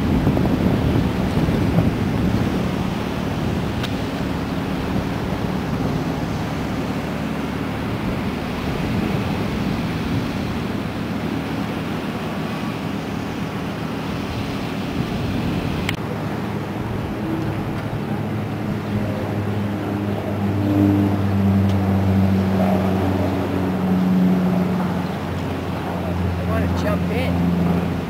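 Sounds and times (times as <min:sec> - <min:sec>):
low engine drone: 0:00.0 - 0:28.0
water washing: 0:00.0 - 0:28.0
wind noise on microphone: 0:00.0 - 0:28.0.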